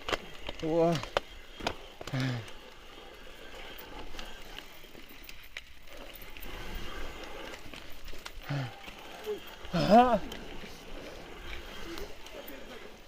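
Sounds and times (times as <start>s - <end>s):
bike knocking and rattling: 0.0s - 13.0s
tyre and trail noise: 0.0s - 13.0s.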